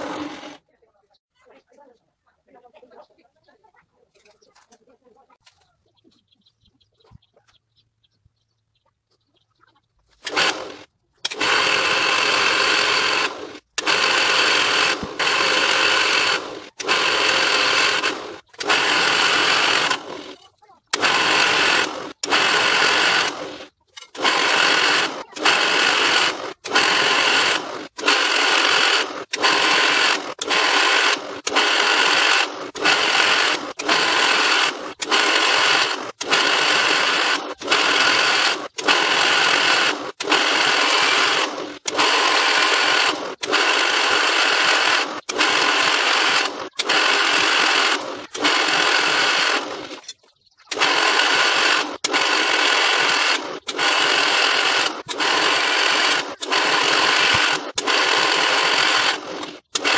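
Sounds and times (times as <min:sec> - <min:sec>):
drill press drilling steel: 0:00.0 - 0:00.6, 0:10.2 - 0:59.9.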